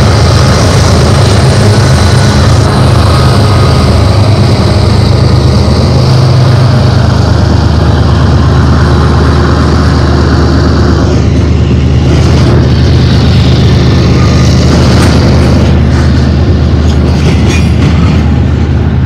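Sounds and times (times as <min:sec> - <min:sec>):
diesel locomotives rumbling: 0:00.0 - 0:19.0
freight cars rolling past: 0:00.0 - 0:19.0.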